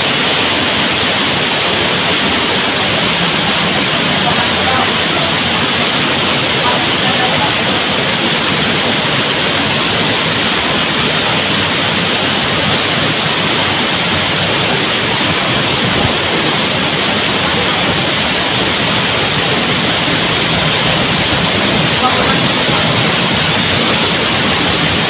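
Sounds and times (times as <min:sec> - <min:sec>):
waterfall rushing and splashing: 0:00.0 - 0:25.0.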